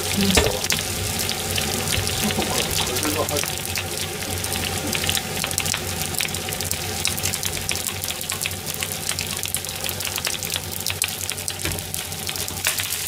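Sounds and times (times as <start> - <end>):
rice sizzling in a wok: 0.0 - 13.0.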